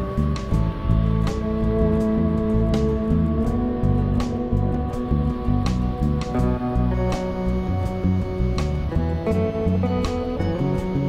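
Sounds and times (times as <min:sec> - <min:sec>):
music with held chords and beat: 0:00.0 - 0:11.0.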